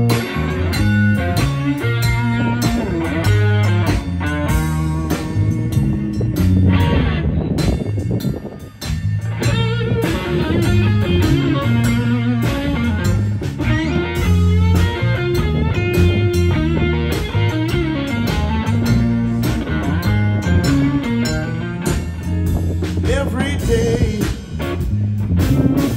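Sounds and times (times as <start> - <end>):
drum kit: 0.0 - 25.9
electric bass: 0.0 - 25.9
electric guitar: 0.0 - 25.9.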